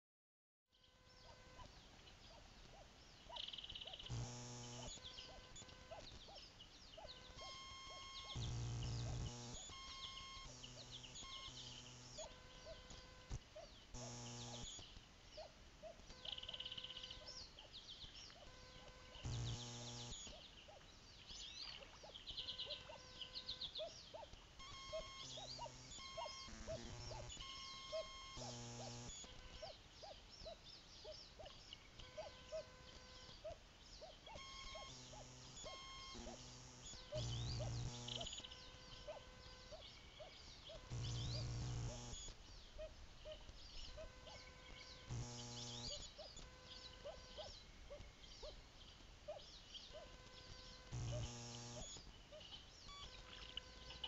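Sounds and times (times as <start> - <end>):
songbirds chirping: 0.7 - 54.0
low buzzing camera hum: 0.8 - 54.0.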